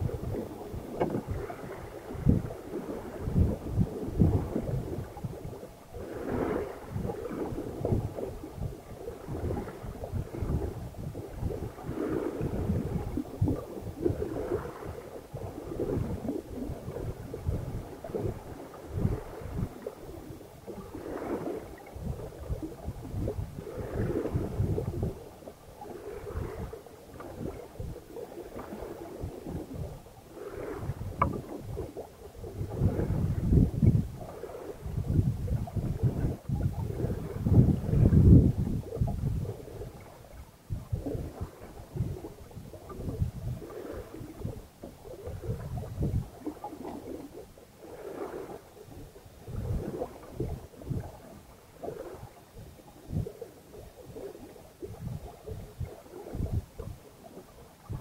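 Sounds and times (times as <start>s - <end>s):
water rushing along hull: 0.0s - 58.0s
wind buffeting microphone: 0.0s - 58.0s.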